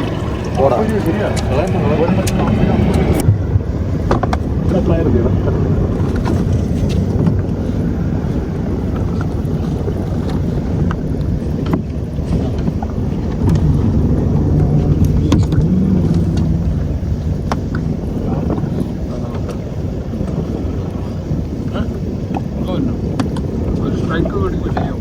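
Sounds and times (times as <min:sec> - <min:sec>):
boat engine rumbling: 0:00.0 - 0:25.0.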